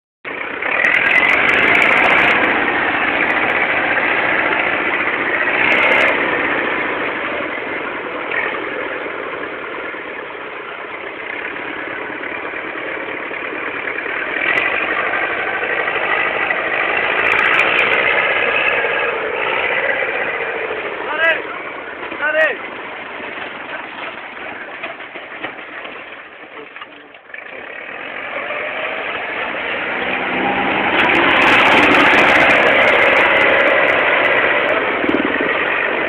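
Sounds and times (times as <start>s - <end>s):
tractor engine running: 0.2s - 36.0s.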